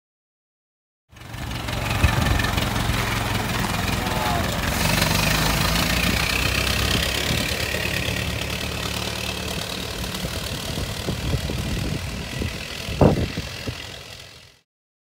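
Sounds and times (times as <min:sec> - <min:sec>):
car engine driving away: 0:01.1 - 0:14.6.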